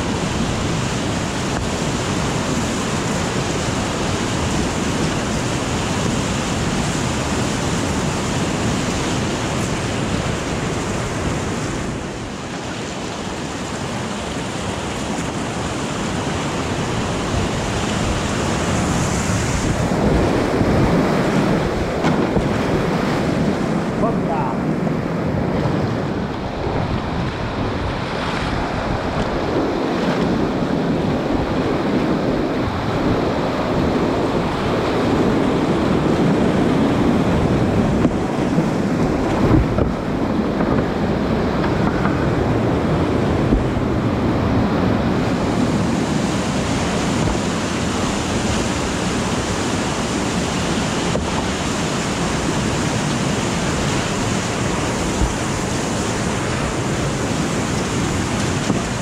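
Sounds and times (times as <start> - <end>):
whitewater rapids rushing: 0.0 - 59.0.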